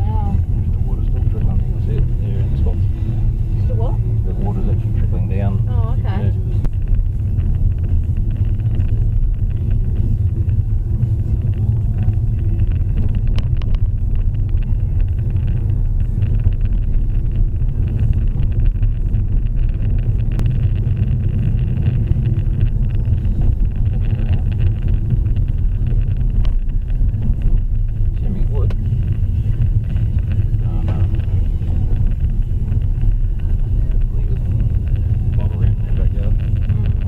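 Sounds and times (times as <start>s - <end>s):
car driving rumble: 0.0s - 37.0s.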